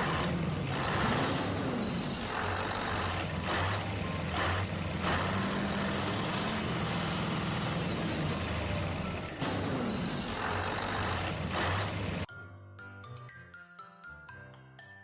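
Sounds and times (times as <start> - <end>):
tractor engine drone: 0.0 - 12.3.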